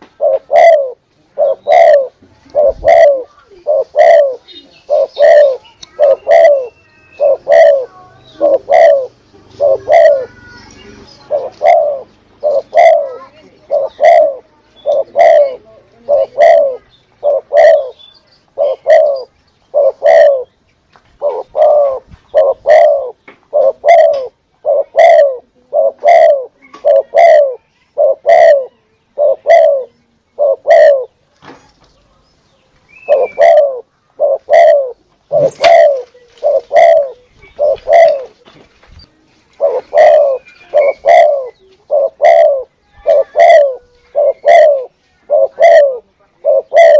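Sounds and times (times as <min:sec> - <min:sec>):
dove cooing: 0:00.0 - 0:20.6, 0:21.2 - 0:31.2, 0:33.0 - 0:38.6, 0:39.5 - 0:46.9.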